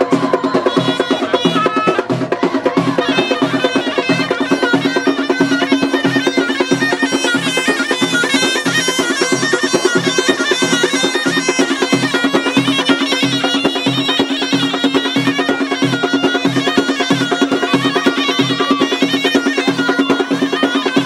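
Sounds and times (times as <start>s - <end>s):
frame drums beating: 0.0s - 21.0s
reedy shawm melody: 0.0s - 21.0s.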